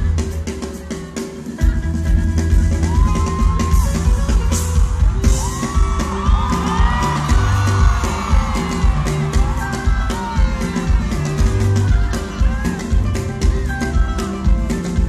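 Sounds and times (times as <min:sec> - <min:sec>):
live band playing: 0:00.0 - 0:15.0
crowd whooping and yelling: 0:02.6 - 0:15.0.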